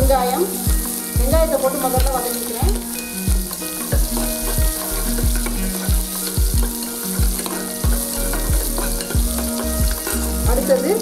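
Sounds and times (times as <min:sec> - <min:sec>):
onions sizzling in oil: 0:00.0 - 0:11.0
spoon stirring against pot: 0:00.0 - 0:11.0.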